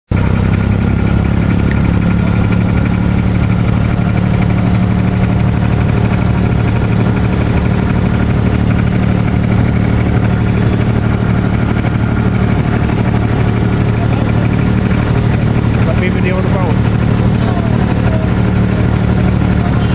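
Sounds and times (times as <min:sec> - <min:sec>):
boat engine droning: 0:00.1 - 0:19.9.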